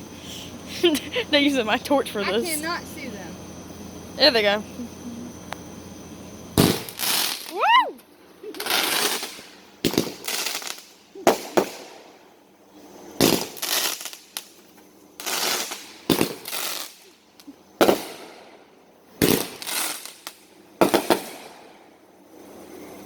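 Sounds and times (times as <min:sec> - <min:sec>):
fireworks bangs with hiss: 0:00.0 - 0:23.0.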